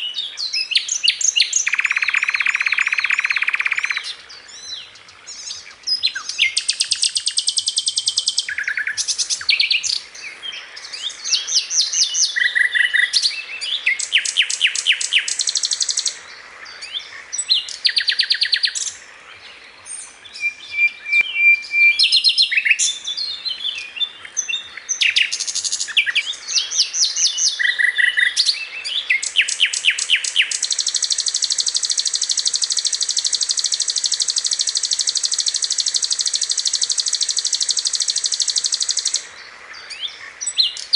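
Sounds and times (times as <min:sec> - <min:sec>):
flycatcher singing trills: 0:00.0 - 0:40.9.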